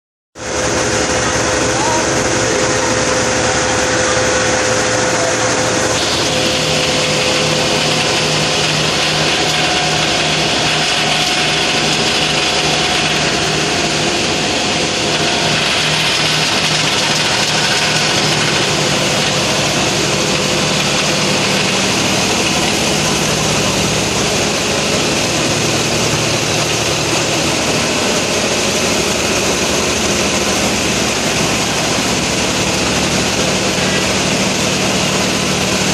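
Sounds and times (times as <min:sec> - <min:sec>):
ship diesel engines running: 0:00.4 - 0:35.9.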